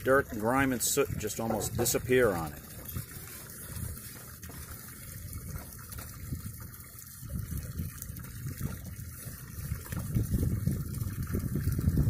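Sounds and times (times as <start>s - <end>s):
water lapping against dinghy: 0.0s - 12.0s.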